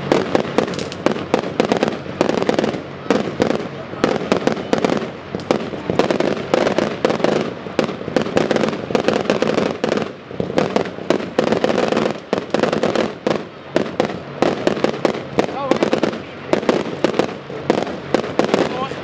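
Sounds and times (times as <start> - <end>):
fireworks bangs and pops: 0.0 - 19.0
hissing rush of sparks: 0.0 - 19.0.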